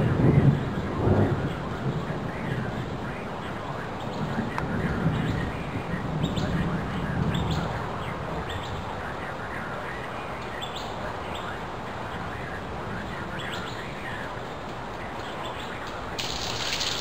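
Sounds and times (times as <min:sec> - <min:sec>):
thunderstorm rain hiss: 0:00.0 - 0:11.2, 0:11.9 - 0:17.0
birds chirping: 0:01.4 - 0:17.0.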